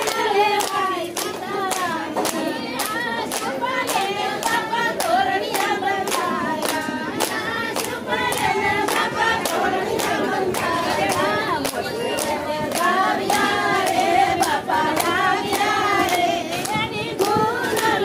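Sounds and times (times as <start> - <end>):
hand-clapping: 0.0 - 18.0
women singing together: 0.0 - 18.0.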